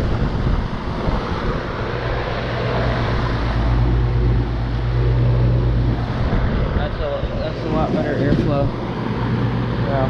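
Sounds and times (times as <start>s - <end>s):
compressor humming: 0.0s - 10.0s
fan air rushing: 0.0s - 10.0s.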